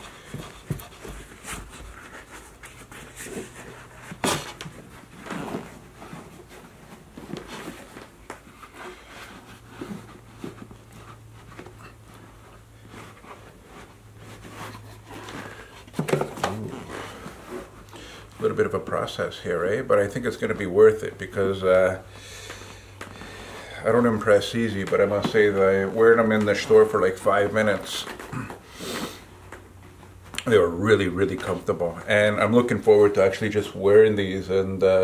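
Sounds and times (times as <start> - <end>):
leather boot handling rustles: 0.0 - 32.1.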